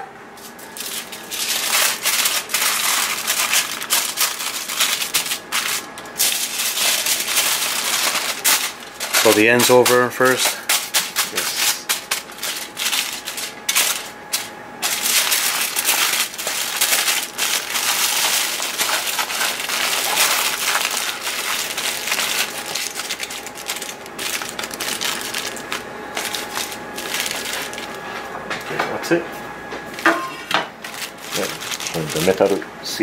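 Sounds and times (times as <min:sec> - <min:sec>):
aluminium foil crinkling: 0:00.4 - 0:28.2, 0:30.8 - 0:32.6.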